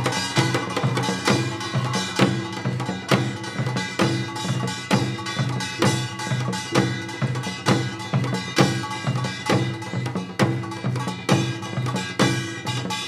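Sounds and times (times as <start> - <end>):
traditional drum dance music: 0.0 - 13.0.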